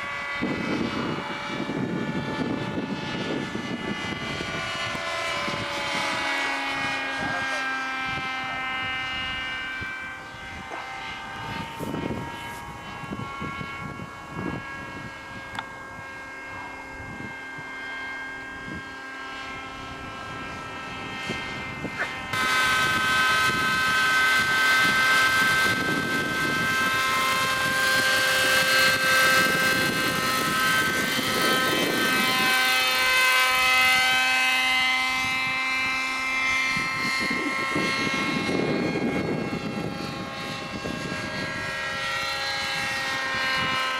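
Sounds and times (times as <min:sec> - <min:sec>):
model helicopter engine buzzing: 0:00.0 - 0:43.9.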